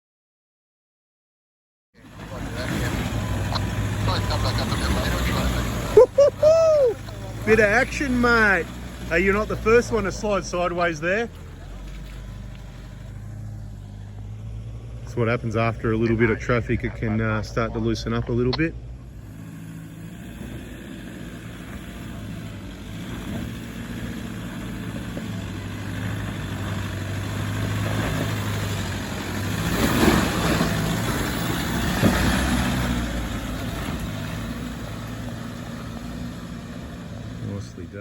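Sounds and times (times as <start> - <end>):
engine labouring uphill: 2.0 - 38.0.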